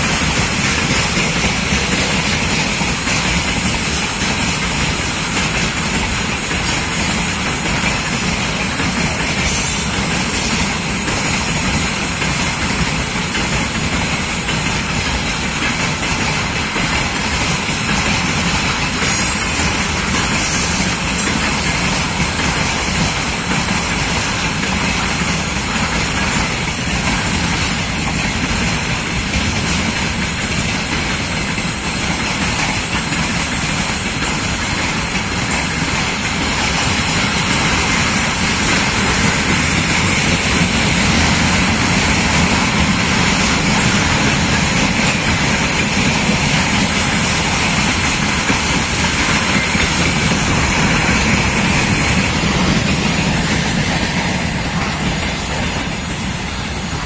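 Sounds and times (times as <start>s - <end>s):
steel train wheels on rails: 0.0s - 57.0s.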